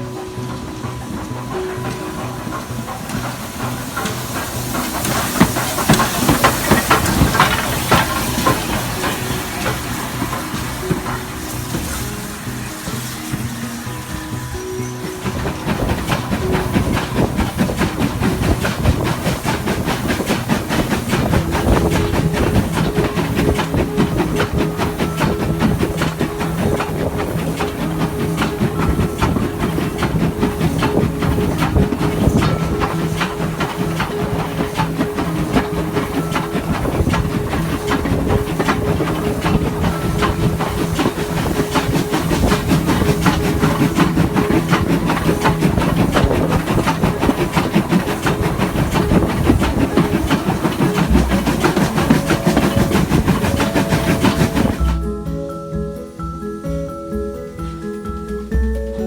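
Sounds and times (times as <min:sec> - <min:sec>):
steam hissing: 0:00.0 - 0:55.2
steady low hum: 0:00.0 - 0:59.0
train running gear rattling: 0:00.0 - 0:59.0.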